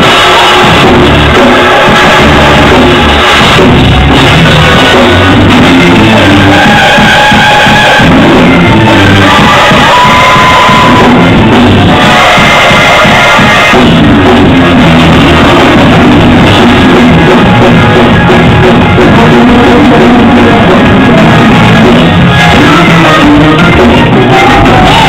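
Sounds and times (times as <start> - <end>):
live band music with drums: 0.0 - 25.0
strong low beat: 0.0 - 25.0.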